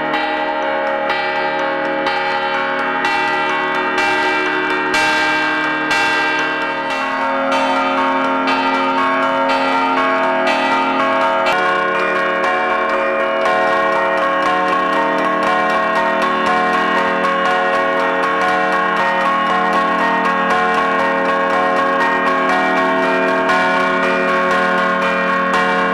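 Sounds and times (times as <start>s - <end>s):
church bells struck with mallet: 0.0s - 25.9s.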